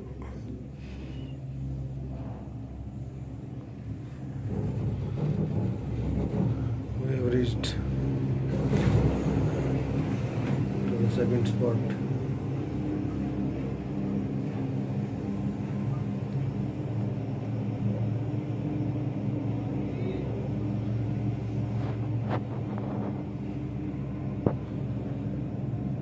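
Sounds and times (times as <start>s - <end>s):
cable car mechanical hum: 0.0s - 26.0s.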